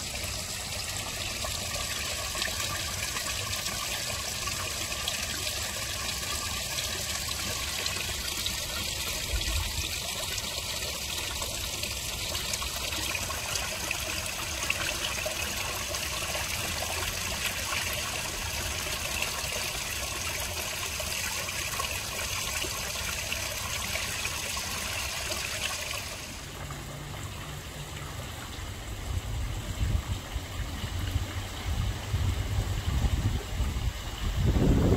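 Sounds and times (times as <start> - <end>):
small waterfall splashing: 0.0 - 29.1.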